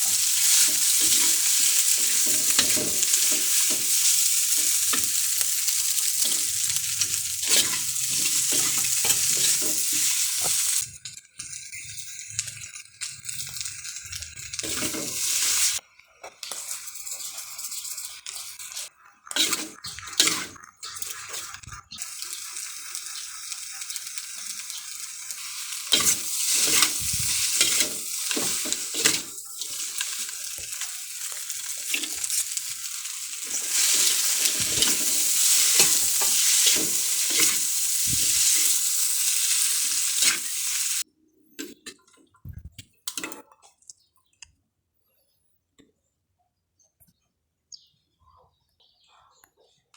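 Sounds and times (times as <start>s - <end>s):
noodles sizzling in a pan: 0.0s - 15.8s, 16.4s - 41.1s.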